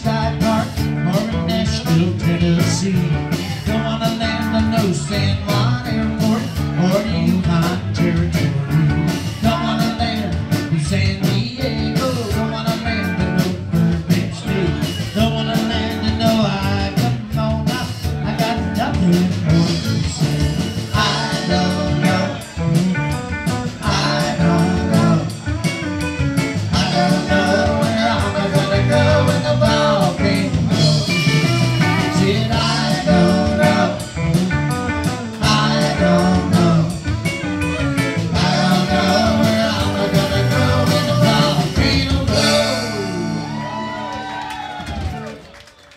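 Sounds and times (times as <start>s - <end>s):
man singing through pa: 0.0s - 22.8s, 23.7s - 25.4s, 26.6s - 34.2s, 35.4s - 37.2s, 38.2s - 43.6s
electric bass: 0.0s - 45.5s
drum kit: 0.0s - 45.8s
electric guitar: 0.0s - 45.9s.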